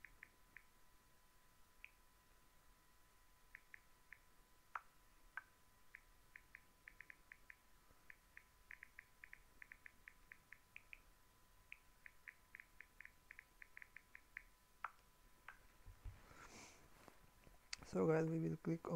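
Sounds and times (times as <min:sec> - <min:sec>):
faint high hum: 0:00.0 - 0:18.9.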